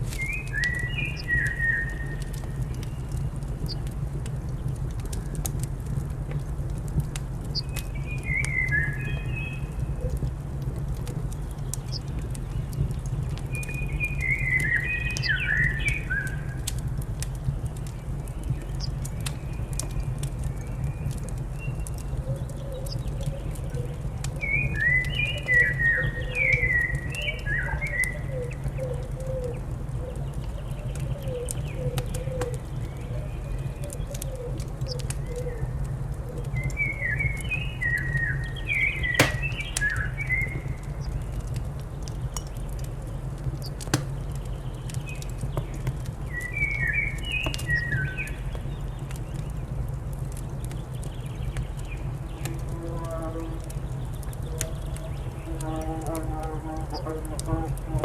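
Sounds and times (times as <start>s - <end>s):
fire crackling and popping: 0.0s - 27.4s, 28.4s - 52.8s, 53.4s - 55.5s.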